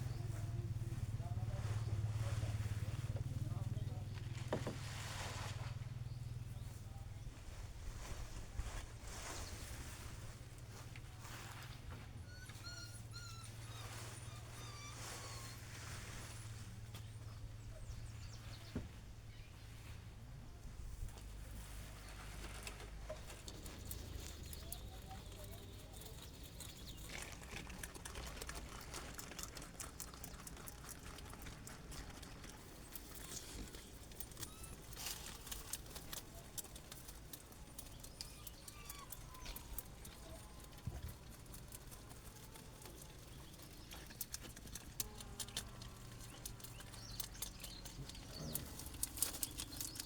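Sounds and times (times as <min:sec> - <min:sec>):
rabbits chewing leaves: 0:00.0 - 0:50.0.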